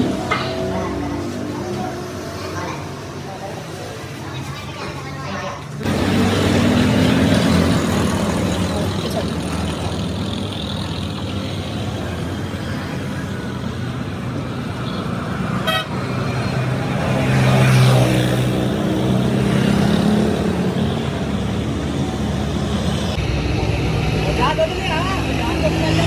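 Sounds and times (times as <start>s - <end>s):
traffic noise: 0.0s - 26.0s
vehicle engine running nearby: 0.0s - 26.0s.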